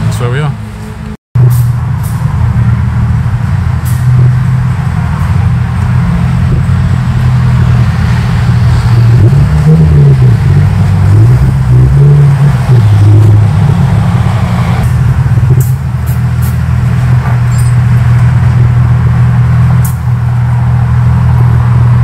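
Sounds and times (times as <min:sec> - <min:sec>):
car engine running and revving: 0:00.0 - 0:22.0.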